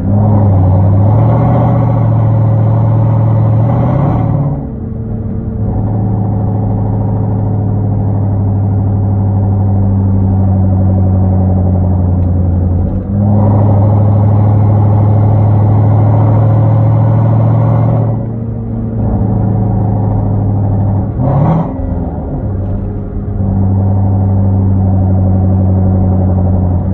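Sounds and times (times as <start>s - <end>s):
car engine droning while driving: 0.0s - 26.9s
engine rev: 0.0s - 26.9s.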